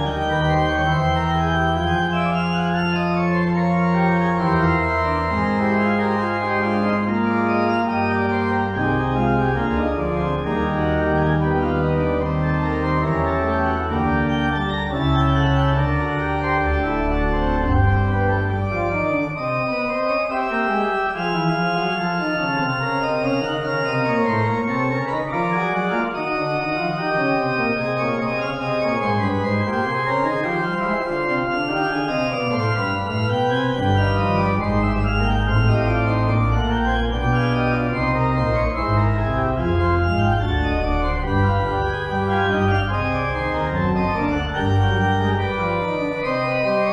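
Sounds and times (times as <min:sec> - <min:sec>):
deep organ pedal bass: 0:00.0 - 0:46.9
organ chords: 0:00.0 - 0:46.9.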